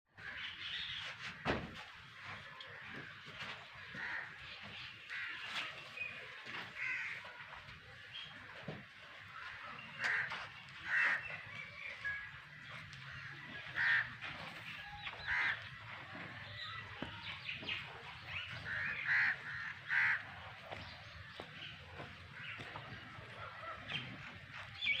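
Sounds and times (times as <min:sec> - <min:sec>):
loud bird calls: 0:00.2 - 0:25.0.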